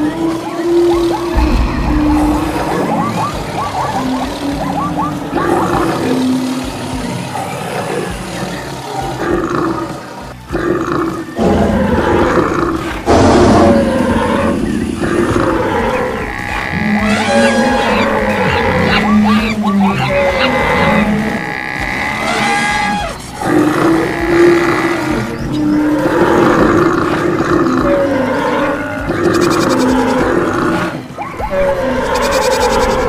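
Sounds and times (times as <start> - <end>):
animal calls: 0.0 - 33.0
wild animal roars and grunts: 0.0 - 33.0.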